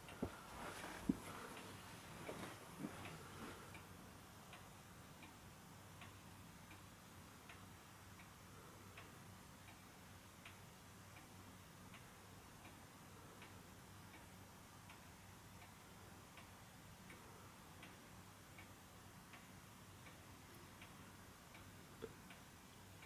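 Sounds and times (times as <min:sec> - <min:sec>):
wall clock ticking faintly: 0:00.0 - 0:23.0.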